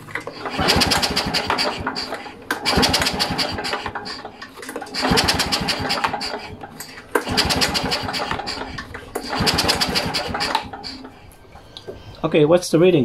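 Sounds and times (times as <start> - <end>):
lawnmower engine cranking: 0.0 - 12.2.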